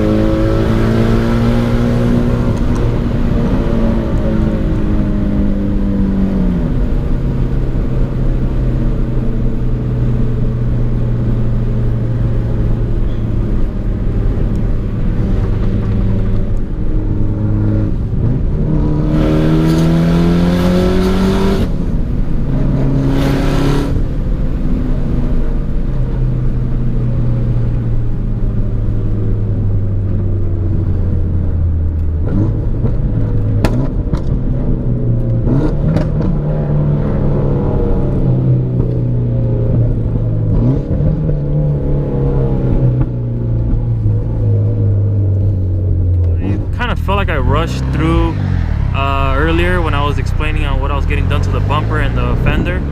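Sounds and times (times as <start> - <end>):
car engine accelerating: 0.0 - 52.9
car engine cruising: 0.0 - 52.9.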